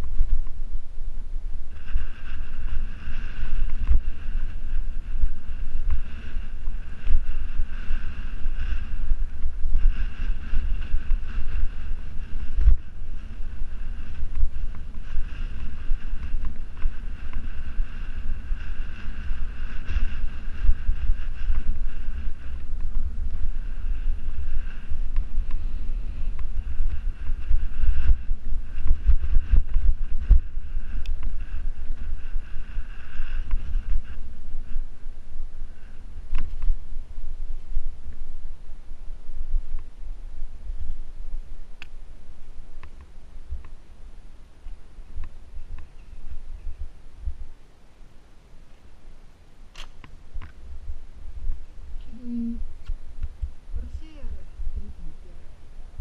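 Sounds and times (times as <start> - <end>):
faint high whine: 0.0 - 56.0
wind buffeting microphone: 0.0 - 56.0.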